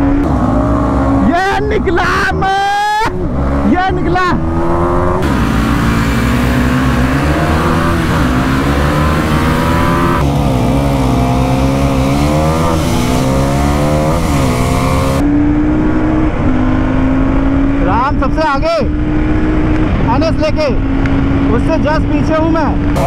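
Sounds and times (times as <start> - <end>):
motorcycle engine at full throttle: 0.0 - 23.0
wind rush: 0.0 - 23.0.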